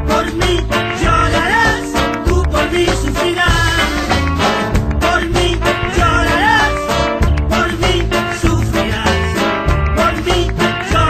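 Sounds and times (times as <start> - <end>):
rumba band music: 0.0 - 11.0
sliding melody line: 0.0 - 11.0
steady bass: 0.0 - 11.0.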